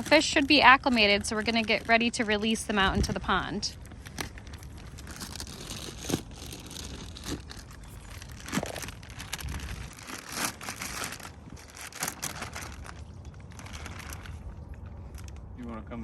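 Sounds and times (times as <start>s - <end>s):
plastic bags crinkling: 0.0s - 15.5s.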